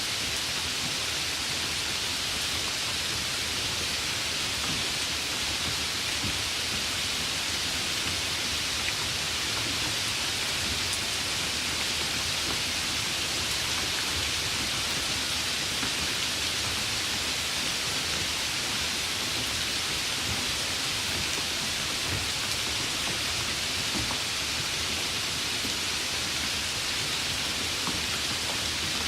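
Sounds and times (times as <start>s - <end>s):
light rain falling: 0.0s - 29.0s.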